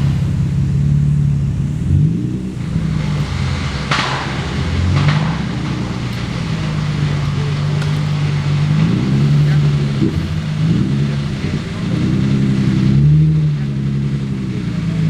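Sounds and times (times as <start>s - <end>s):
hissy bursts: 0.0s - 13.1s
car engine running: 0.0s - 15.0s.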